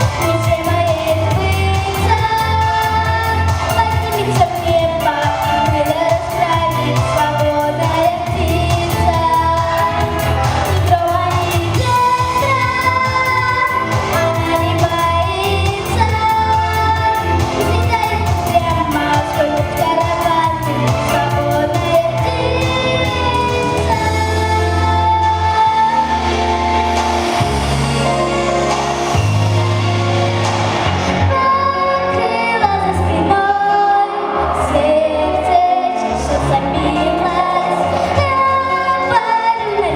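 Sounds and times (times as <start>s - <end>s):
woman singing pop song: 0.0s - 27.5s, 31.0s - 39.9s
backing track with bass line: 0.0s - 39.9s.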